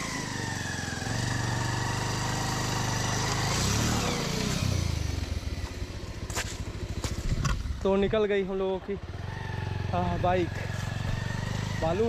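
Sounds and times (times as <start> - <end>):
motorcycle engine revving hard: 0.0 - 8.0, 9.0 - 12.0.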